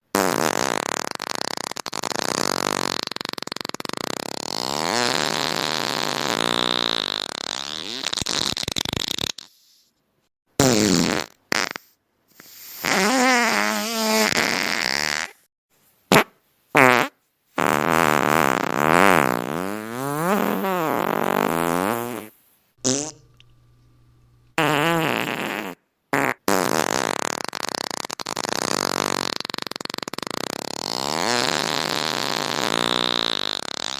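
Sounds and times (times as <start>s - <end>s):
fart sounds: 0.0s - 9.9s, 10.6s - 15.5s, 16.1s - 23.4s, 24.6s - 33.9s.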